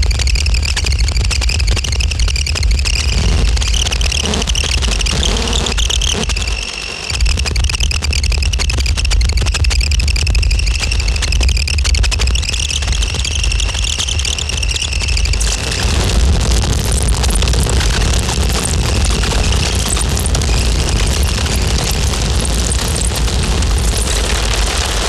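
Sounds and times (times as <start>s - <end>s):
dense crackling noise: 0.0s - 25.0s
high-pitched squeal: 0.0s - 25.0s.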